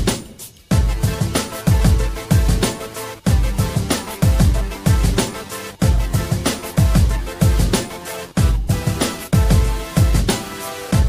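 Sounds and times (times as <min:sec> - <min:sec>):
background music: 0:00.0 - 0:11.0
deep kick drum beat: 0:00.0 - 0:11.0.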